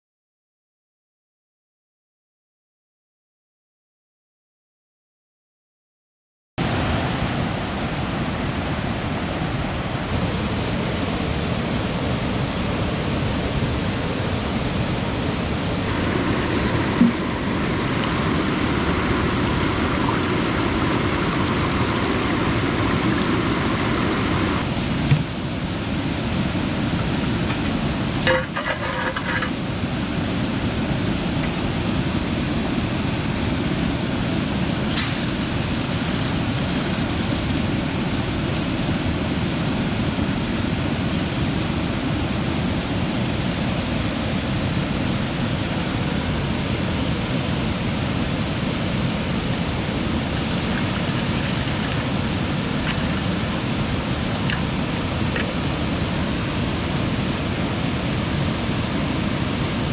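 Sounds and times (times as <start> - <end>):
river and waterfall rushing: 6.6 - 59.9.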